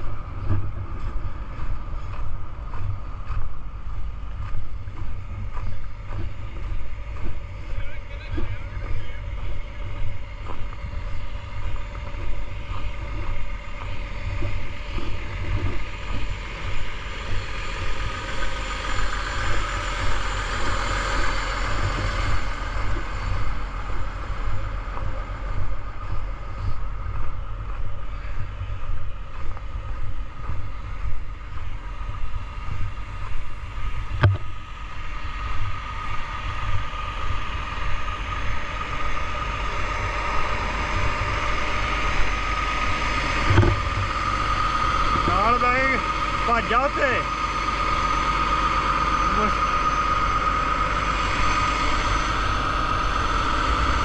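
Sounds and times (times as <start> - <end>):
engine whine: 0.0 - 54.0
truck engine rumbling: 0.0 - 54.0.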